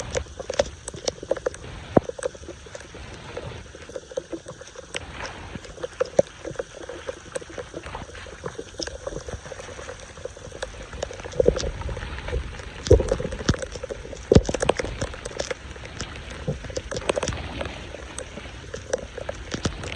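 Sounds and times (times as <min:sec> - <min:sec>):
flood water splashing at drain: 0:00.0 - 0:19.9.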